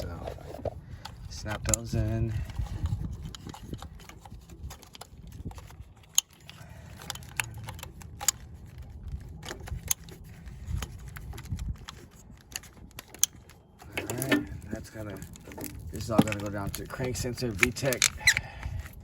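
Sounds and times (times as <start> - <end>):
plastic connectors rattling: 0.0 - 19.0.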